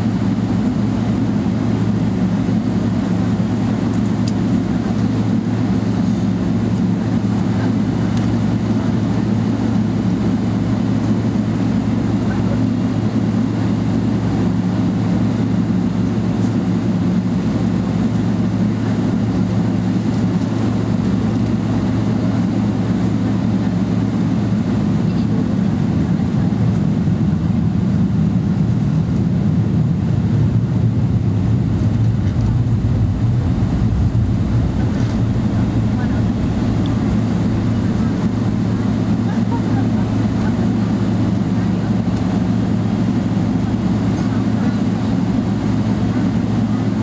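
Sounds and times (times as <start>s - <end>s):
airplane cabin hum: 0.0s - 47.0s.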